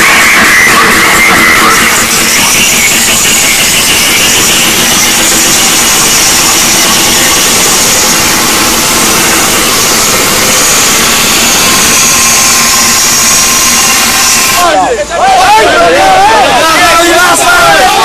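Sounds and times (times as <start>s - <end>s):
harsh distorted loud speaker noise: 0.0s - 18.0s.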